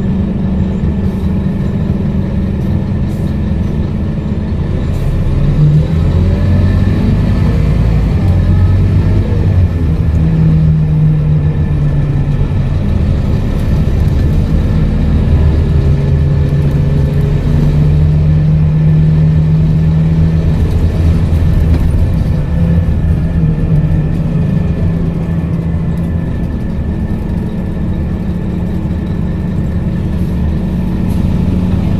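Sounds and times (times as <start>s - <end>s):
bus diesel engine running: 0.0s - 31.9s.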